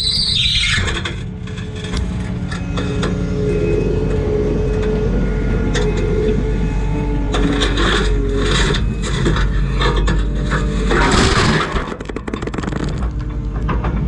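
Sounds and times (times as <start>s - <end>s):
high squeal: 0.0s - 11.8s
diesel engine and hydraulics: 0.0s - 14.0s.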